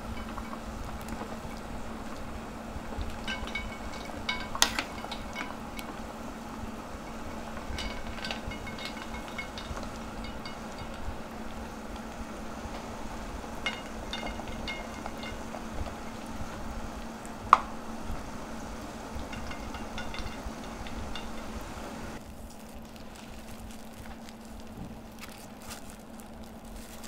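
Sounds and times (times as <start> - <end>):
spoon stirring in a pan: 0.0 - 22.0
light sizzle: 0.0 - 27.0
steady low hum: 0.0 - 27.0.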